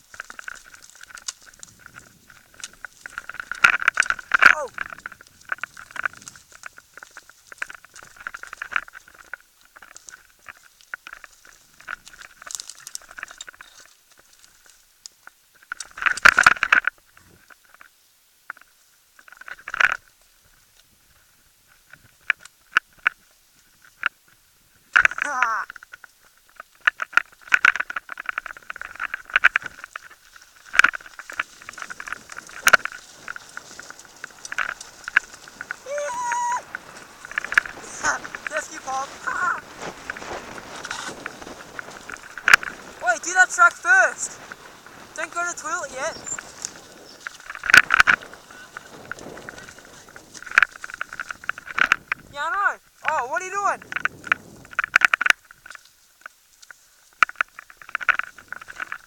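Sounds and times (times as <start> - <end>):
tyres crunching on dirt: 0.0 - 14.8, 25.0 - 59.0
mountain bike rattling: 0.0 - 17.8, 21.7 - 53.2, 53.8 - 59.0.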